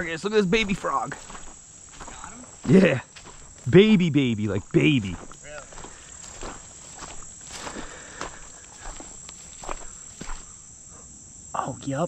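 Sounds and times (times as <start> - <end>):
footsteps on dry grass and mud: 0.0 - 10.7
insects chirring: 0.0 - 12.0.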